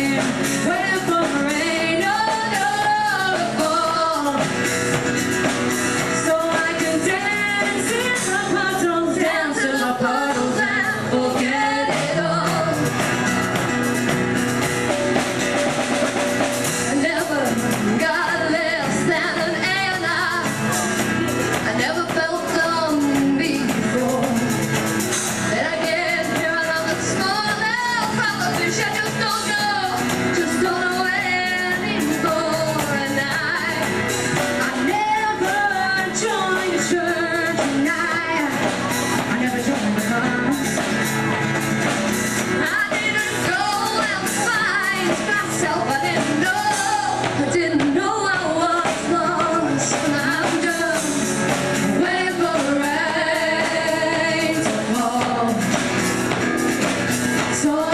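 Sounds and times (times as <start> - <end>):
women singing: 0.0 - 13.3, 16.6 - 41.1, 42.4 - 57.9
instrumental accompaniment: 0.0 - 57.9.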